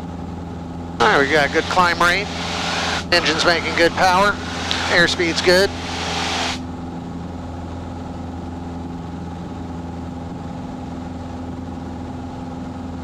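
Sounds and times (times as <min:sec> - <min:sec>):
aircraft engine and propeller: 0:00.7 - 0:13.0.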